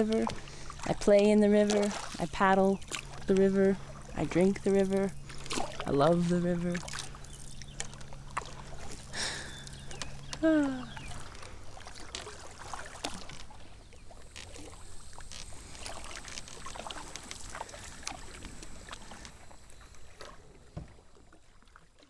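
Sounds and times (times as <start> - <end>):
paddle splashing water: 0.0 - 22.0.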